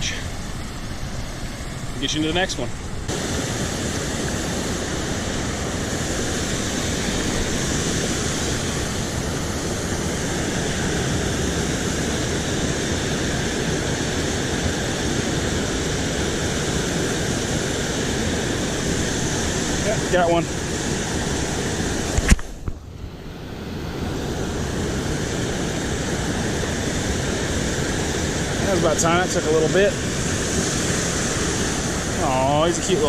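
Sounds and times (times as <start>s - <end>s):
water rushing over spillway: 0.0s - 33.0s.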